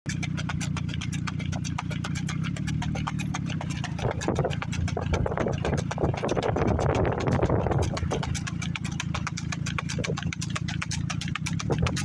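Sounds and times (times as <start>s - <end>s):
hoofbeats on dirt road: 0.1s - 12.0s
low engine hum: 0.1s - 12.0s
rough rushing noise: 0.2s - 12.0s.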